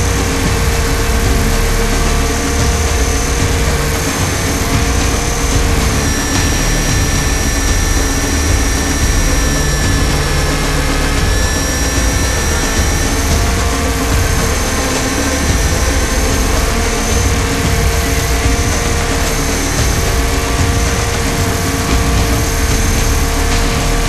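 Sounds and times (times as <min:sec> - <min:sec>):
rc helicopter whine: 0:00.0 - 0:24.0
rotor wash rushing: 0:00.0 - 0:24.0.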